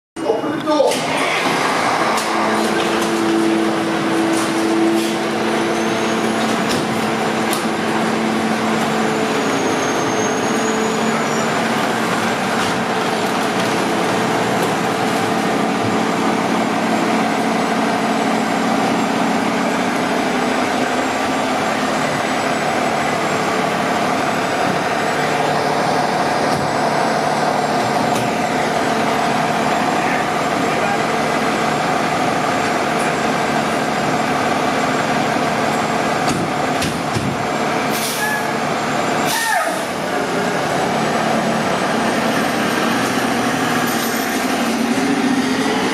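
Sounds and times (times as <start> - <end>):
diesel engine idling: 0.2 - 45.9.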